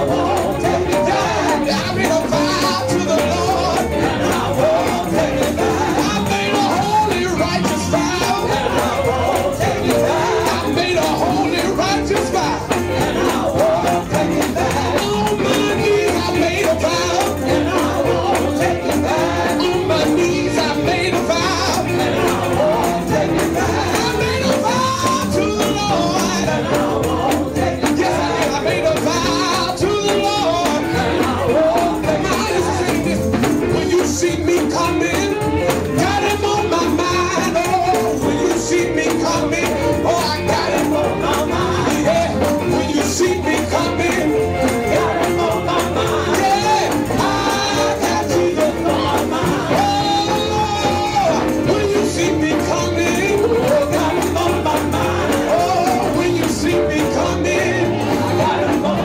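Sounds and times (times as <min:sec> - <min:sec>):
gospel band playing: 0:00.0 - 0:59.0
people singing: 0:00.0 - 0:59.0
tambourine shaking: 0:00.0 - 0:59.0.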